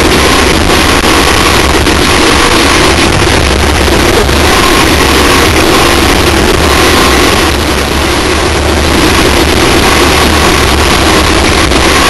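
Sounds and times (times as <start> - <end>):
low rumble: 0.0 - 12.0
wind and road noise: 0.0 - 12.0.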